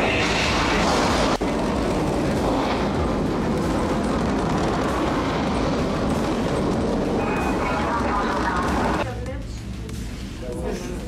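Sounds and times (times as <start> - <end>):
rocket launch rumble over loudspeakers: 0.0 - 9.0.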